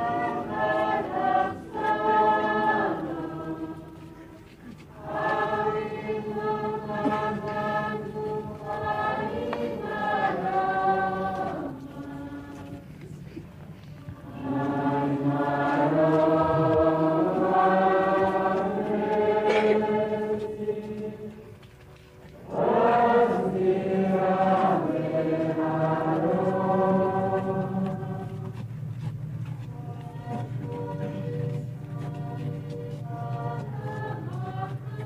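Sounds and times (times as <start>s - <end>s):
many voices singing a hymn: 0.0s - 35.0s.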